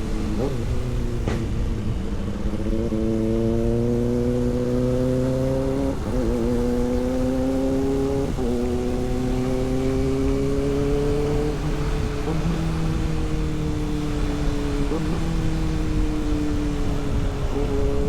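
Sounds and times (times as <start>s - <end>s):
motorcycle engine accelerating: 0.0s - 18.0s
wind and road noise: 0.0s - 18.0s.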